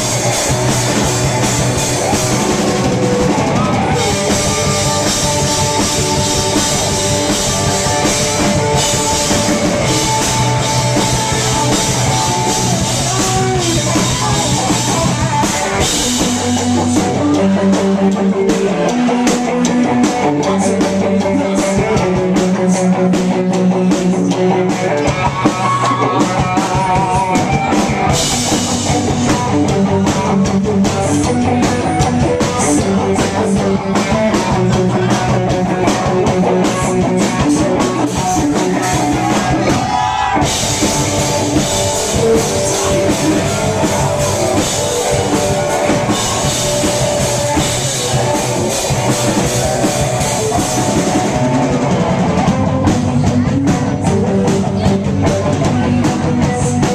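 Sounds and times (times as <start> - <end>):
rock band playing live: 0.0 - 56.9.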